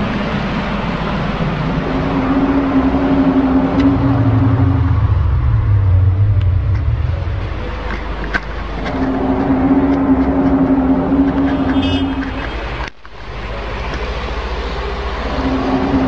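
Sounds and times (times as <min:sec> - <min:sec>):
heavy rumbling background: 0:00.0 - 0:16.0
low droning hum: 0:00.0 - 0:16.0.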